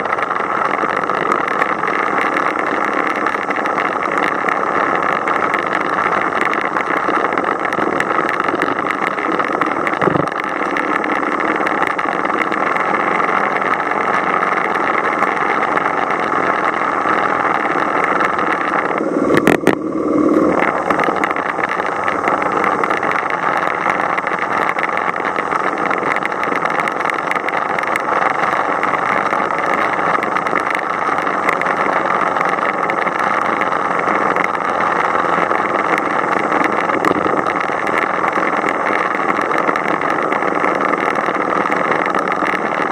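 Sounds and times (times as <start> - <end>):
motorcycle engine: 0.0 - 42.9
wind rush: 0.0 - 42.9.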